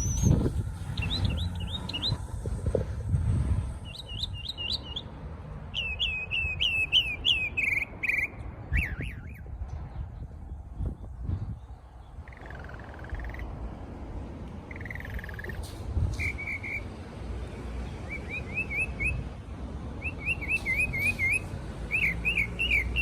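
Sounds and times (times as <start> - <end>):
songbird singing: 0.0 - 2.9, 3.6 - 23.0.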